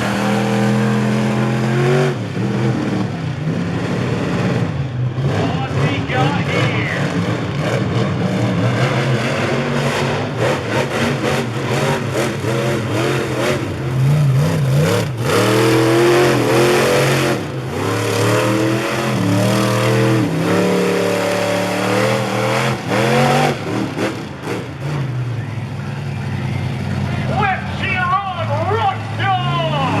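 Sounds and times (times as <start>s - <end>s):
monster truck engine revving: 0.0s - 30.0s.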